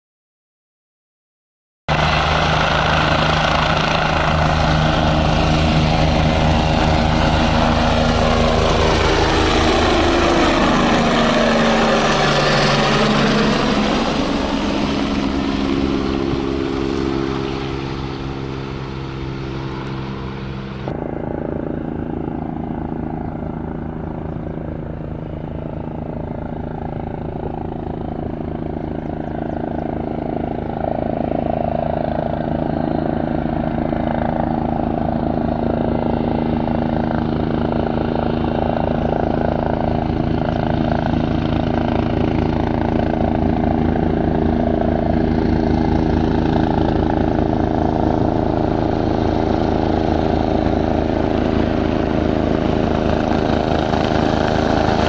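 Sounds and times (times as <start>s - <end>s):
distant helicopter: 1.9s - 55.0s
helicopter flying past: 1.9s - 55.0s.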